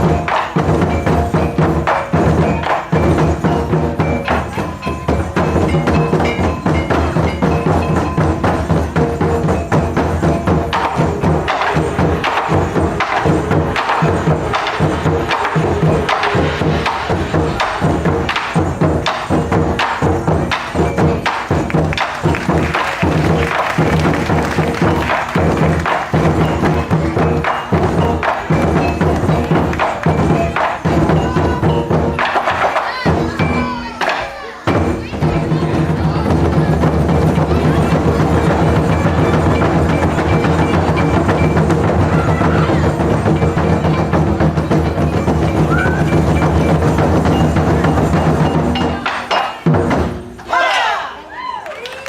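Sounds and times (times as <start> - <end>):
deep drum beats: 0.0 - 50.4.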